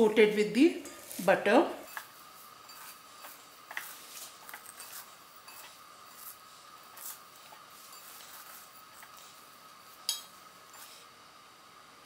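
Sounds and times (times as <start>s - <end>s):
stirring in a bowl clicks and rustles: 0.8s - 11.1s.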